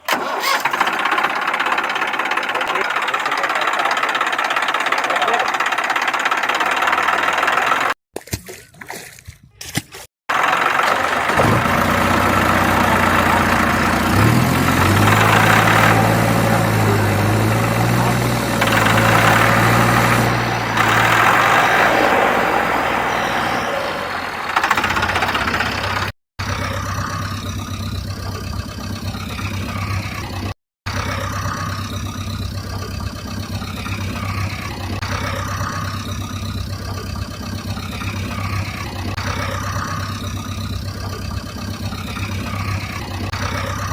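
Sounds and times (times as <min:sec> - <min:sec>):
vehicle engine revving and idling: 0:00.1 - 0:08.0, 0:10.3 - 0:43.9.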